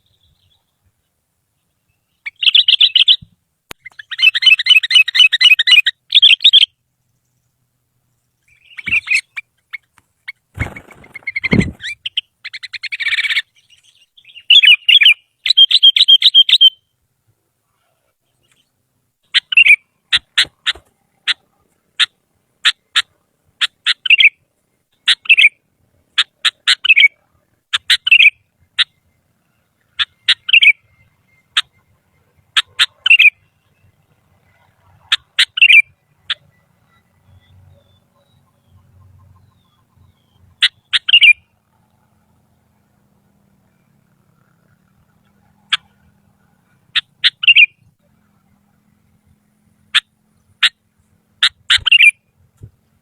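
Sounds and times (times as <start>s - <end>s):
bulbul singing: 0.0s - 17.0s, 18.2s - 53.0s.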